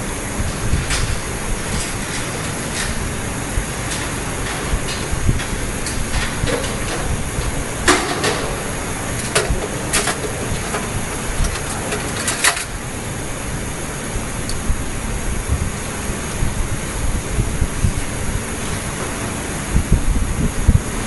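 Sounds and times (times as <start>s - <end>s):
machine shop background noise: 0.0s - 21.0s.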